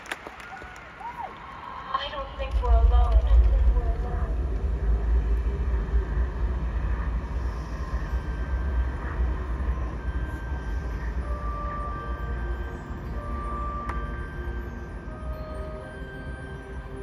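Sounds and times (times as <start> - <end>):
deep rumbling drone with hiss: 1.9 - 17.0.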